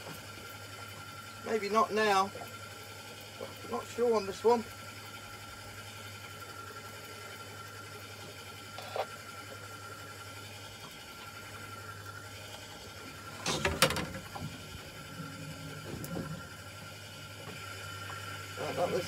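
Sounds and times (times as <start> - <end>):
fishing reel humming: 0.0 - 19.0.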